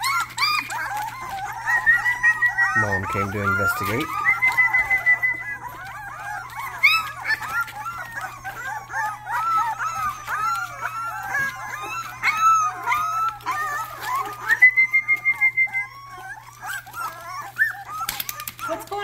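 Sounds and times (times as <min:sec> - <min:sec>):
puppies whining and yelping: 0:00.0 - 0:19.0.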